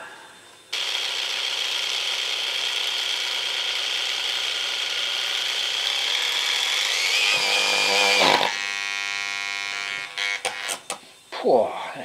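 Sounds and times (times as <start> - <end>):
angle grinder motor whining: 0.7 - 11.0.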